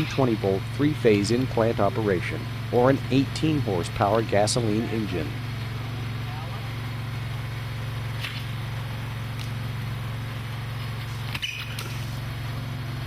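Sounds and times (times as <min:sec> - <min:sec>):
gas engine running: 0:00.0 - 0:13.0.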